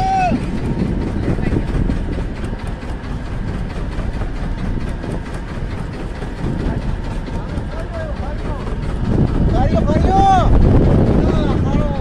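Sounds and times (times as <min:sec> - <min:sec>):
boat engine running at low revs: 0:00.0 - 0:12.0.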